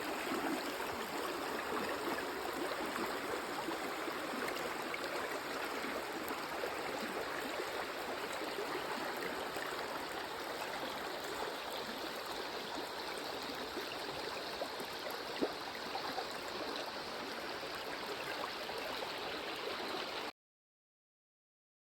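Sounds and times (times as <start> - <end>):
stream babbling: 0.0 - 20.2.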